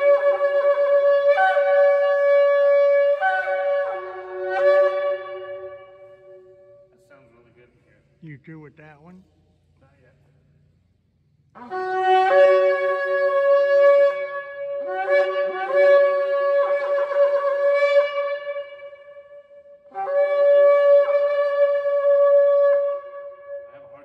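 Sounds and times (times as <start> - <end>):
ram's horn blasts: 0.0 - 9.2, 11.5 - 24.0.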